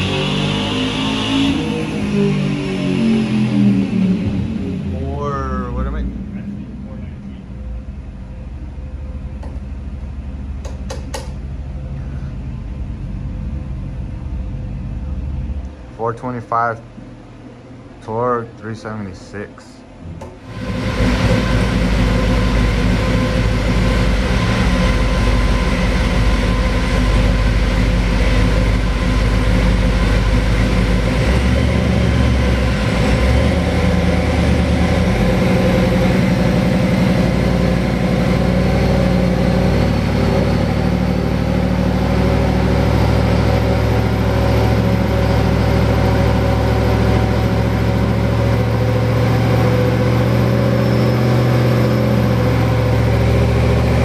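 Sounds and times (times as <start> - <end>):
supercharged engine running steadily: 0.0 - 54.0.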